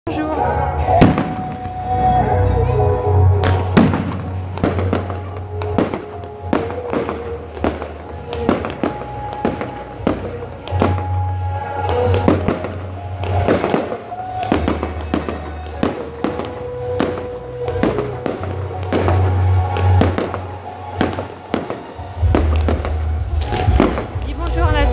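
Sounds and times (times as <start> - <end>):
music with bass line: 0.1 - 24.9
fireworks banging: 0.8 - 2.3, 3.3 - 24.9.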